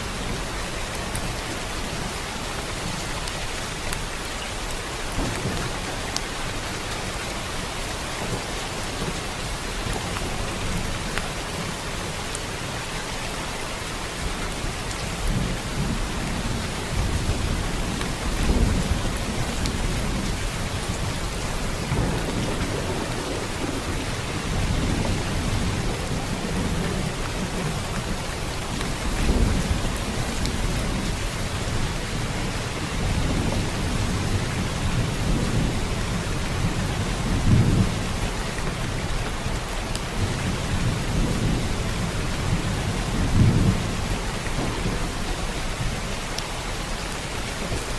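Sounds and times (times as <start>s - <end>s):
steady rain falling: 0.0s - 47.9s
thunder rumbling: 4.6s - 11.7s, 14.6s - 47.9s.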